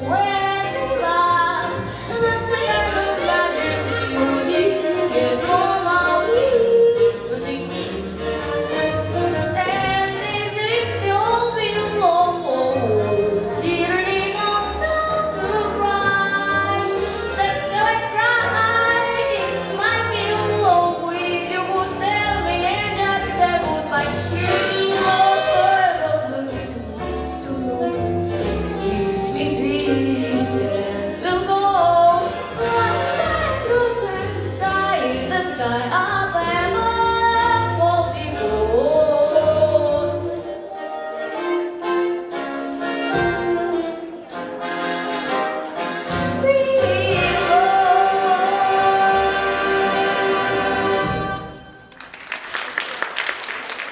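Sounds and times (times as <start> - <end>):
instrumental accompaniment: 0.0 - 52.0.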